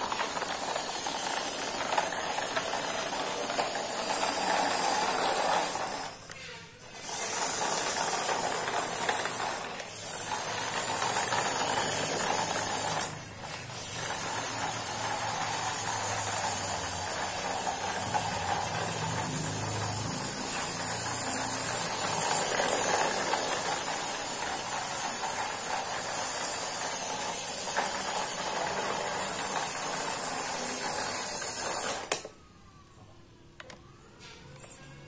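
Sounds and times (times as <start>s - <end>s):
toy truck motor whirring: 0.0s - 32.5s.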